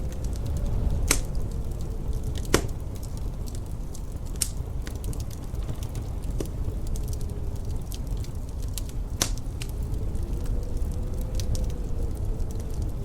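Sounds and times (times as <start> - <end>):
low rumble of wind: 0.0 - 13.0
wood fire crackling: 0.0 - 13.0.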